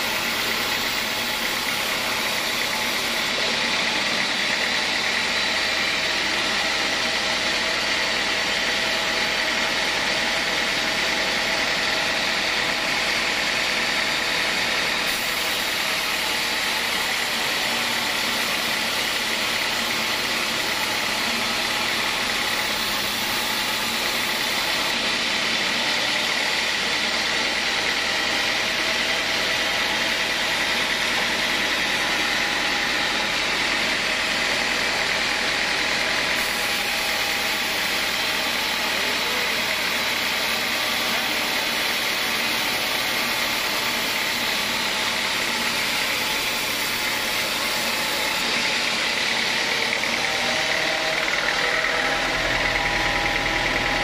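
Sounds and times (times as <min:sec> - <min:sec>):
band sawmill cutting wood: 0:00.0 - 0:54.0.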